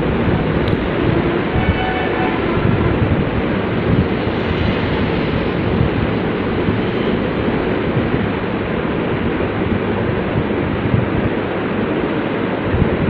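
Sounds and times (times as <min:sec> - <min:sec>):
steady low rushing noise: 0:00.0 - 0:13.0.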